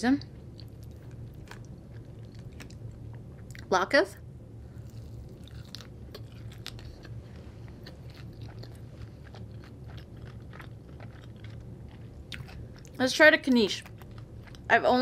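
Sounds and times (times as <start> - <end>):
low steady hum: 0.0 - 15.0
person chewing crunchy food: 0.4 - 3.7, 4.7 - 13.0, 13.7 - 14.7.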